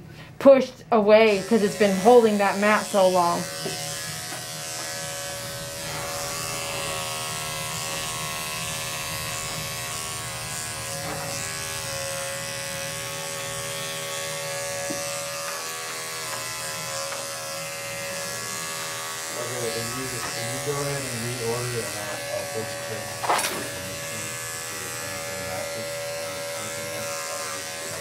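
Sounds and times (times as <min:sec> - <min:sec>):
electric clippers buzzing: 0:00.9 - 0:28.0.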